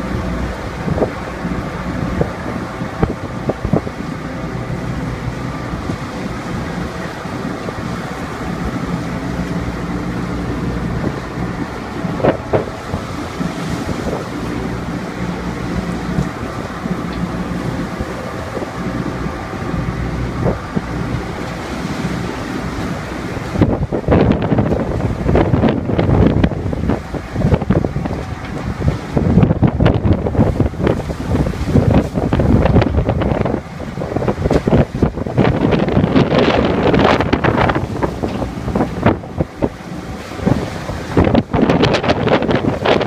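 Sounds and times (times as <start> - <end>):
boat diesel engine droning: 0.0 - 43.0
rough seas washing past hull: 0.0 - 43.0
wind gusting on microphone: 0.0 - 43.0.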